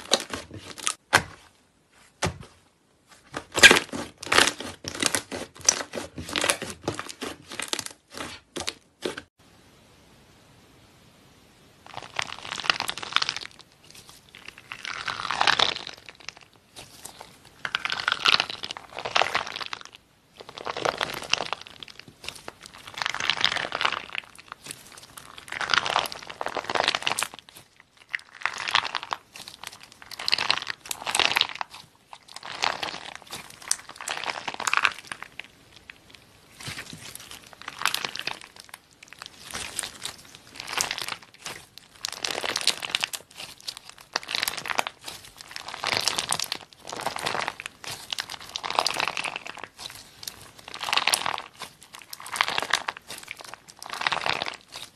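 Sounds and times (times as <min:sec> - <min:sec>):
slime crackling when squeezed: 0:03.4 - 0:09.2, 0:11.9 - 0:54.9.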